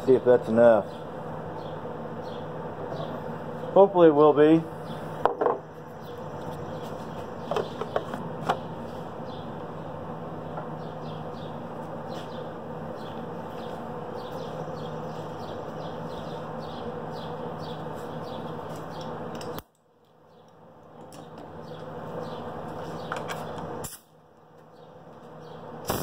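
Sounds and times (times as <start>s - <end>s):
machine drone with low hum: 0.0s - 26.0s
birds chirping: 0.5s - 23.8s, 24.4s - 26.0s.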